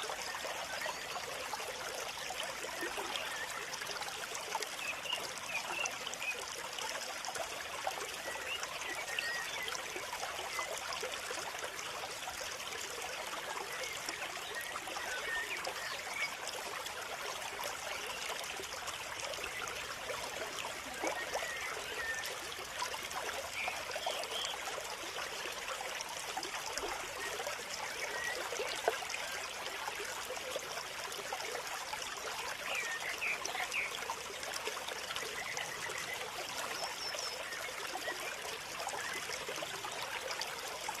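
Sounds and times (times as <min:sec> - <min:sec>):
stream water trickling: 0:00.0 - 0:41.0.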